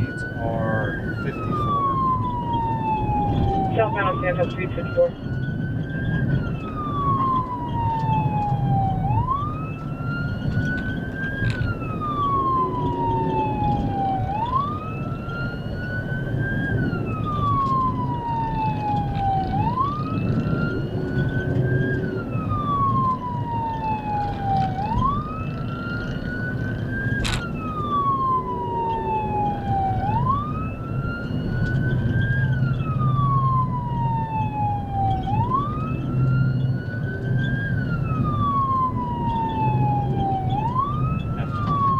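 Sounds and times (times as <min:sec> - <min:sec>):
car engine and road noise: 0:00.0 - 0:41.9
police siren wailing: 0:00.0 - 0:41.9.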